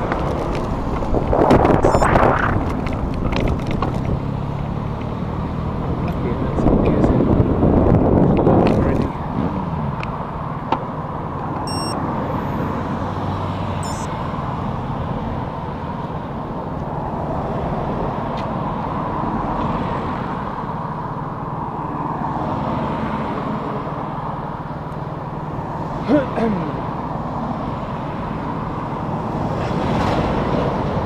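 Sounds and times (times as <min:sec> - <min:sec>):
steady road traffic: 0:00.0 - 0:31.0.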